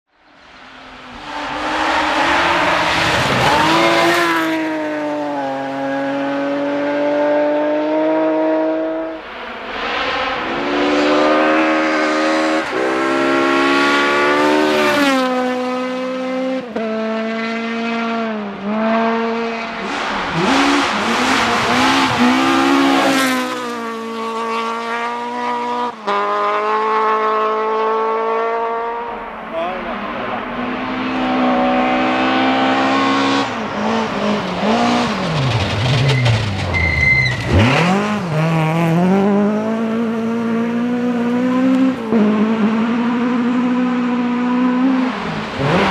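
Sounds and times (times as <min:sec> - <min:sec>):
rally car engines revving: 0:00.4 - 0:45.9.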